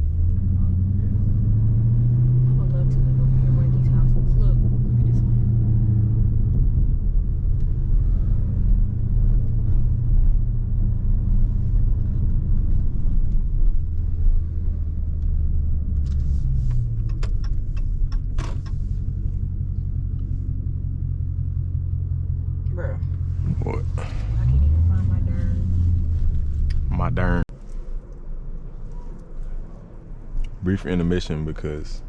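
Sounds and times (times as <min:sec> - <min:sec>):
engine droning at low revs: 0:00.0 - 0:32.0.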